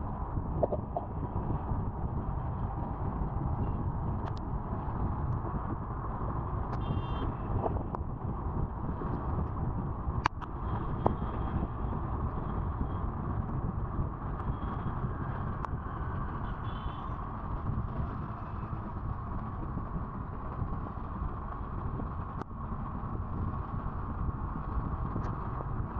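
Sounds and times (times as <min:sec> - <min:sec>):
wind rush and road noise: 0:00.0 - 0:25.9.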